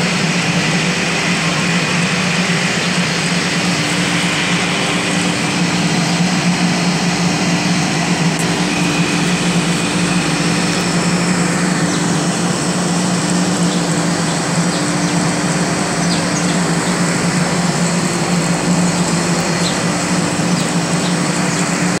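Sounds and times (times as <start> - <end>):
broad rushing noise: 0.0 - 22.0
machine humming: 0.0 - 22.0.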